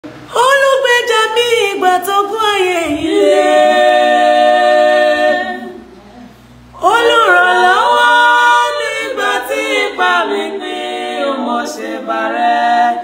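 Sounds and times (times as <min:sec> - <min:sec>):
woman singing a cappella: 0:00.3 - 0:05.7, 0:06.8 - 0:13.0.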